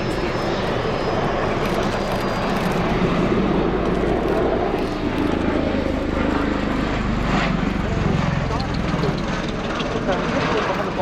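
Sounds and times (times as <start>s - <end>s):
tiltrotor aircraft flying past: 0.0s - 11.0s.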